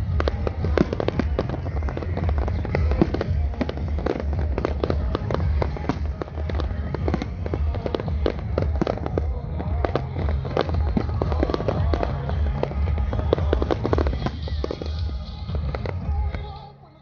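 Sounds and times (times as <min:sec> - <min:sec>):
fireworks bangs and crackles: 0:00.0 - 0:16.6
continuous low rumble: 0:00.0 - 0:17.0.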